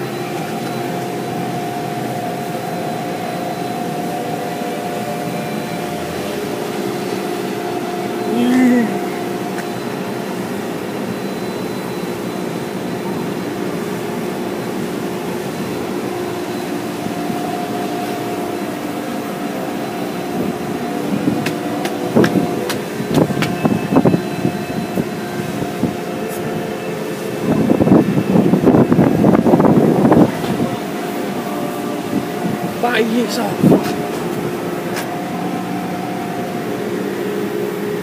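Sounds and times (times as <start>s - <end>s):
car wash machinery humming: 0.0s - 38.0s.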